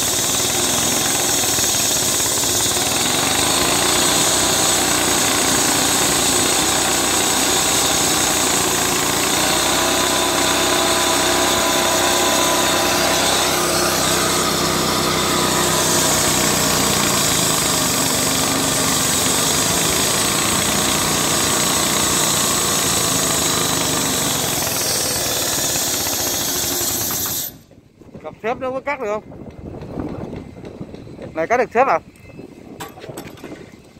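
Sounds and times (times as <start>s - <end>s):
concrete saw engine drone: 0.0s - 27.6s
saw blade grinding concrete: 0.0s - 27.7s.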